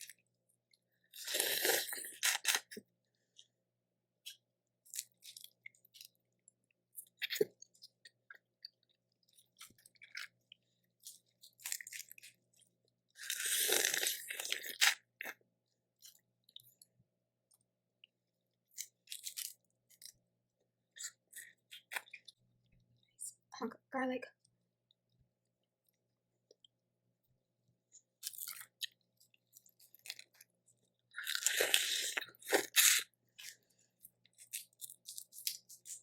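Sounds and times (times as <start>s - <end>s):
person chewing and crunching: 0.0s - 3.5s, 4.2s - 16.9s, 18.6s - 23.4s, 28.0s - 36.0s.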